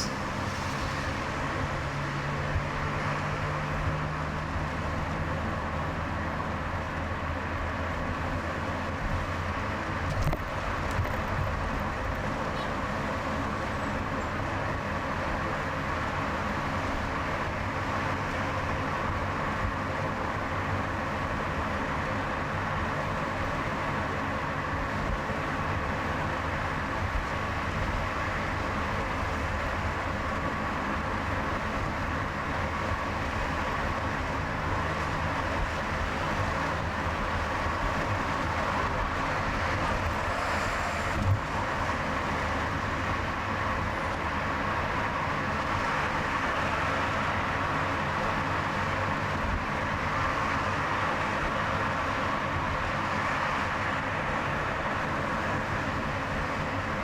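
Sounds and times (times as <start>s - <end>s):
car engine hum: 0.0s - 57.0s
tyre and road noise: 0.0s - 57.0s.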